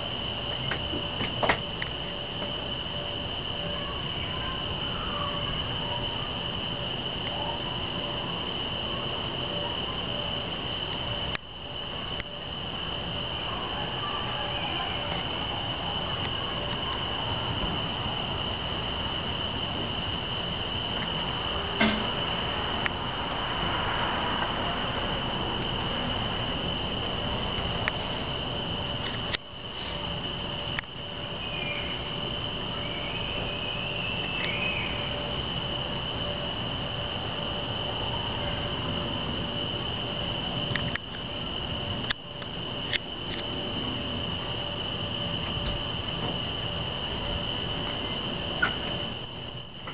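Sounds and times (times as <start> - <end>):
crickets chirring: 0.0 - 49.9.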